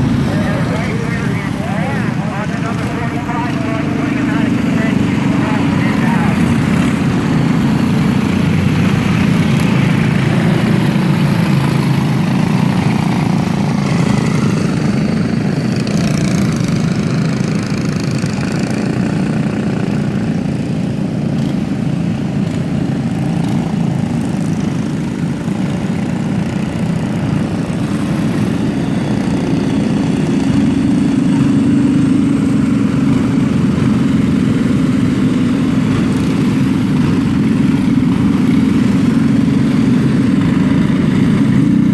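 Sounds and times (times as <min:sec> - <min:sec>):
race car engines droning: 0:00.0 - 0:41.9.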